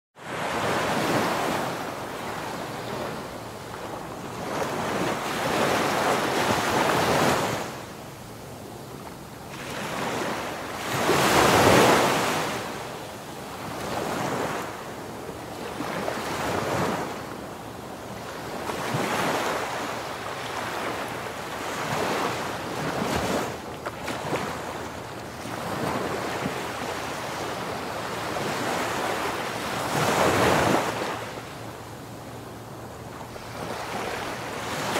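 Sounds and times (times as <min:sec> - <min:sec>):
ocean waves breaking on shore: 0:00.2 - 0:34.9.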